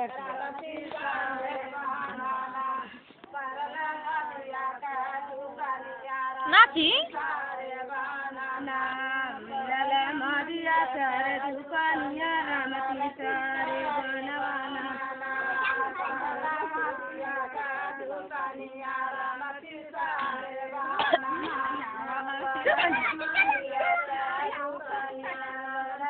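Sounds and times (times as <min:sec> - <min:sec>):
women and girls singing together: 0:00.0 - 0:26.0.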